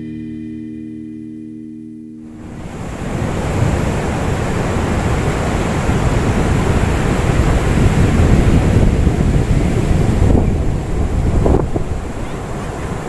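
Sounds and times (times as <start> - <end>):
ocean surf breaking: 2.3 - 13.0
wind buffeting microphone: 2.4 - 13.0.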